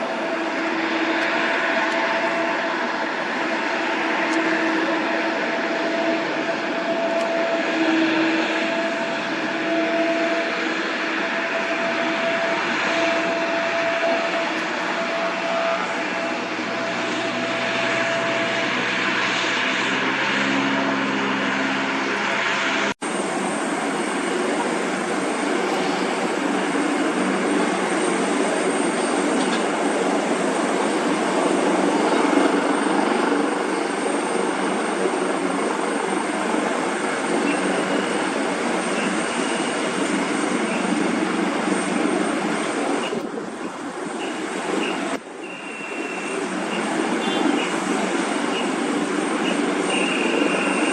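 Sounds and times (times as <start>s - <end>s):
jet engines roaring: 0.0s - 50.9s.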